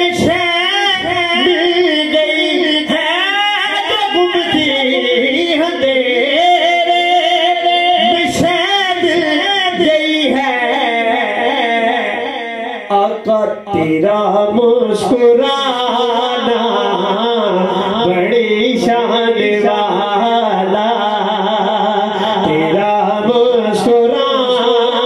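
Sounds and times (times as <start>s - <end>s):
man singing into microphone: 0.0s - 25.0s.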